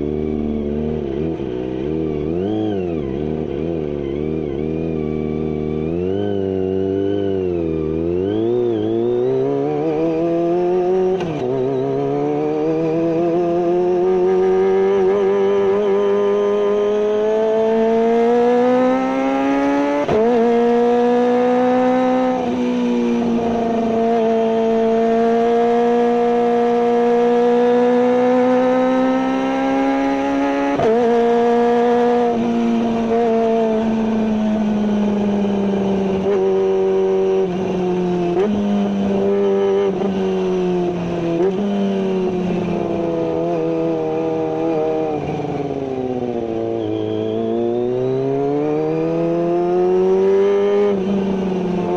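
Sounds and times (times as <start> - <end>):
motorcycle engine revving high: 0.0 - 51.9.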